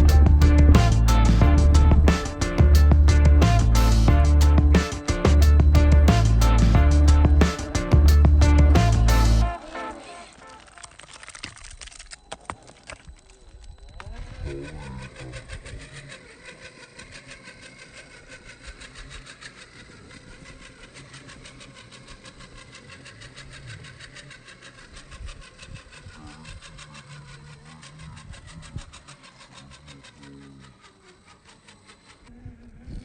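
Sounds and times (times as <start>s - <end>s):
electric motor whirring and pulsing: 0.0s - 33.0s.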